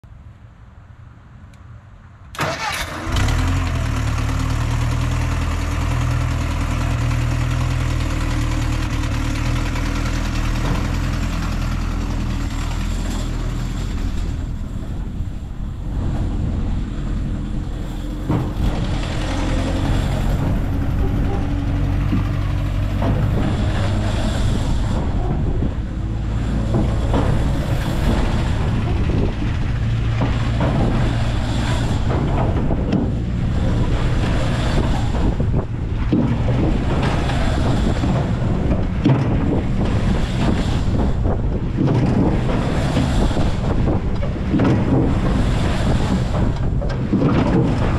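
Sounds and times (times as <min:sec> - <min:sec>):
ride machinery humming: 0:02.3 - 0:47.9
rushing noise: 0:02.3 - 0:47.9
knocks from moving ride: 0:08.9 - 0:47.9.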